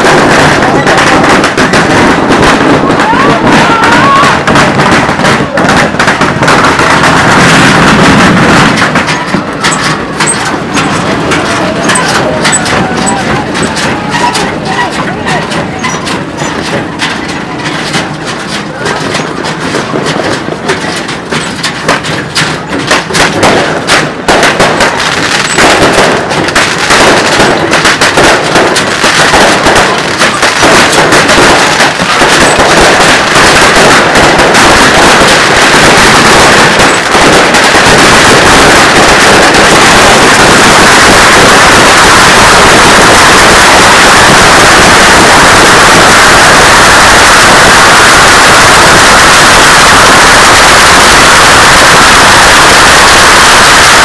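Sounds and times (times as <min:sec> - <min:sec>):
bottle rockets crackling bangs: 0:00.0 - 0:54.0.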